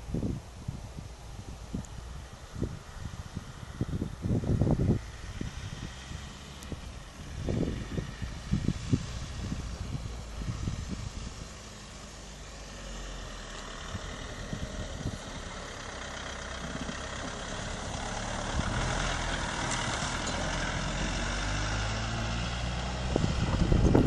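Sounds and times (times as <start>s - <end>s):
wind buffeting microphone: 0.0s - 24.0s
truck engine driving: 1.2s - 24.0s.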